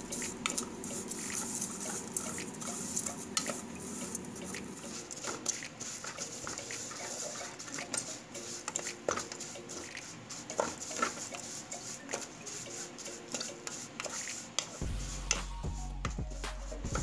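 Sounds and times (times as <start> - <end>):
wooden spatula scraping metal pan: 0.0 - 15.5.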